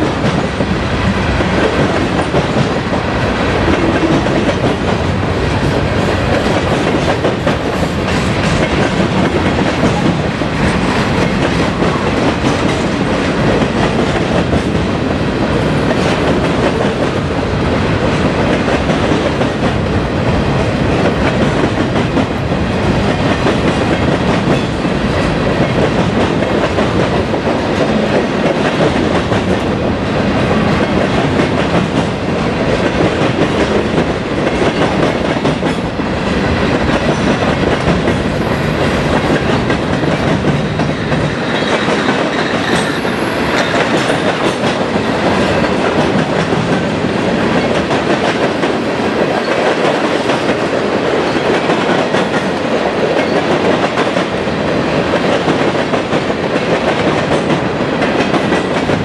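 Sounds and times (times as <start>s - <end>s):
freight train wheels on rail: 0.0s - 59.0s.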